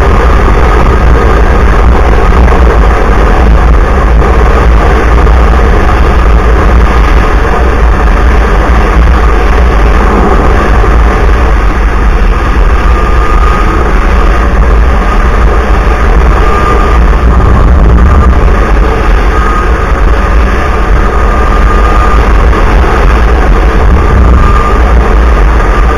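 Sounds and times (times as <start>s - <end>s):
snowmobile running: 0.0s - 25.9s
wind rumble on microphone: 0.0s - 25.9s.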